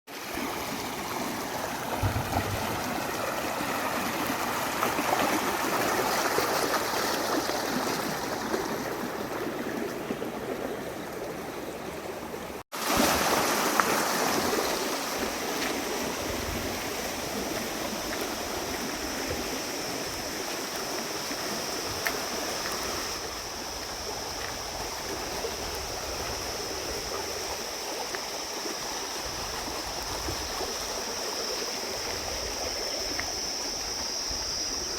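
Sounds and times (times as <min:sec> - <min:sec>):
stream flowing: 0:00.1 - 0:34.9.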